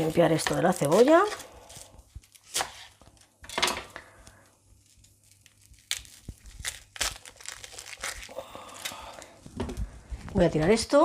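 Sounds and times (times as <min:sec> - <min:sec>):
onion skins crinkling and rustling: 0:00.0 - 0:11.0.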